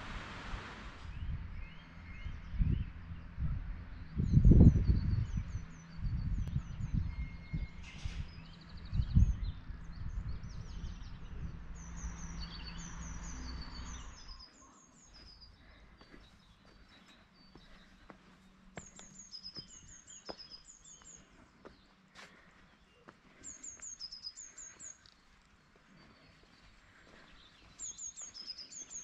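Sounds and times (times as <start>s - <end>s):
songbirds chirping: 0.2s - 29.0s.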